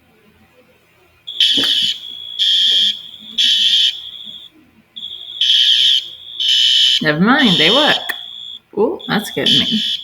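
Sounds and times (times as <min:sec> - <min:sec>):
fire alarm pulsed blasts: 0:01.3 - 0:10.0
fire alarm steady high tone: 0:01.3 - 0:10.0.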